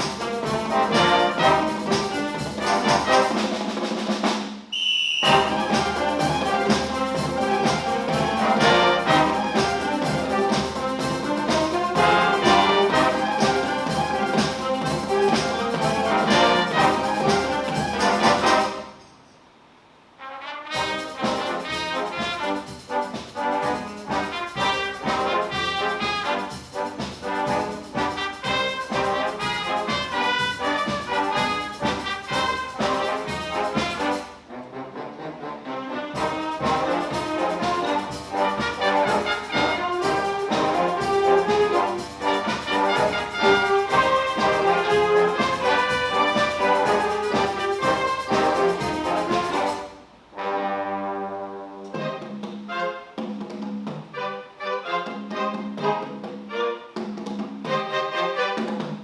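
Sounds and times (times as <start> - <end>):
wind band playing: 0.0 - 19.2, 20.2 - 53.3, 54.0 - 59.0.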